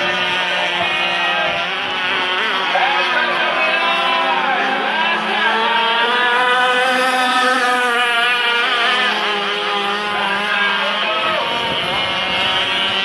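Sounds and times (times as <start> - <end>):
model powerboat engines revving: 0.0 - 13.0.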